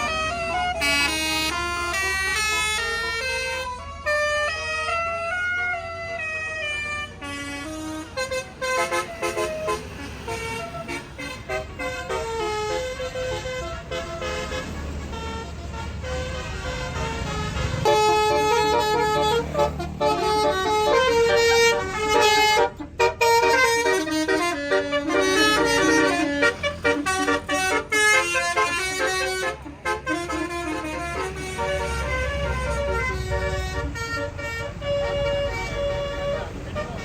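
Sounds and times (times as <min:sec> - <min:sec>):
musical air horn melody: 0:00.0 - 0:37.0.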